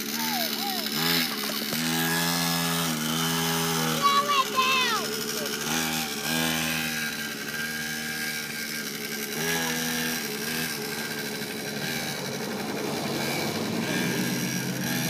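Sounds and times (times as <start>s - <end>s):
mini dirt bike engine: 0.0s - 15.0s.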